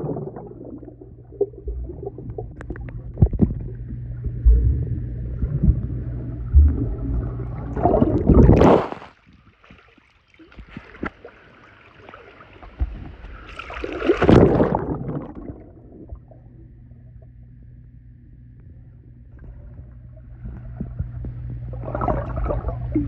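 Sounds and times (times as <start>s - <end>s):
water gurgling: 0.0s - 9.1s, 10.5s - 16.6s, 19.4s - 23.0s
pool water sloshing and splashing: 0.0s - 16.6s, 19.3s - 23.0s.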